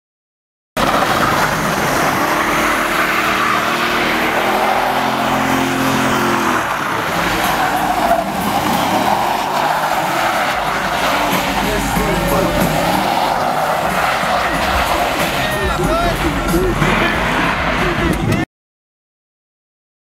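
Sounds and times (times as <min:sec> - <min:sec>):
car engine running hard: 0:00.8 - 0:18.4
tyres spinning and squealing: 0:00.8 - 0:18.5.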